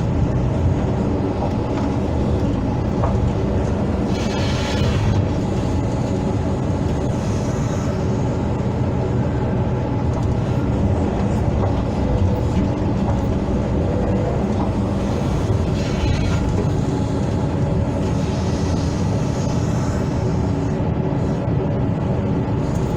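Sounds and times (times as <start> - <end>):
excavator diesel engine drone: 0.0 - 22.9.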